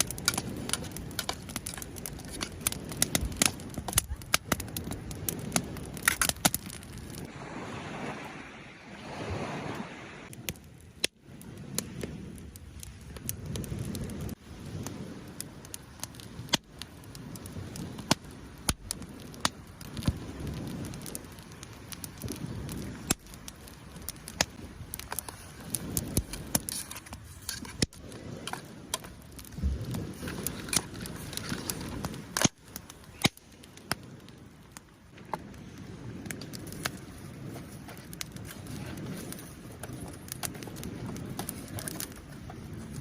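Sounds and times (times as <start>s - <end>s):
fire popping: 0.0s - 43.0s
flame rumble: 0.0s - 43.0s
wood fire crackling: 0.0s - 43.0s.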